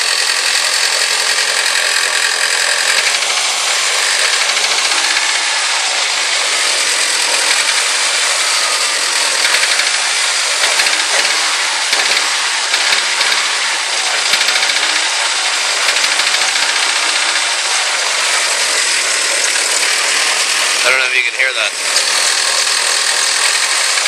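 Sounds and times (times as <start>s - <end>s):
engine running with ticking knock: 0.0s - 24.0s.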